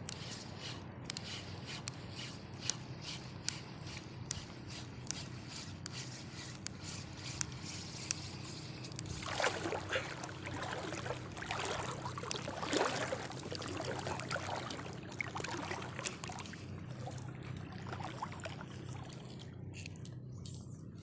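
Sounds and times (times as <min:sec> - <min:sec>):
water trickling and lapping: 0:00.1 - 0:21.0
low hum: 0:00.5 - 0:21.0.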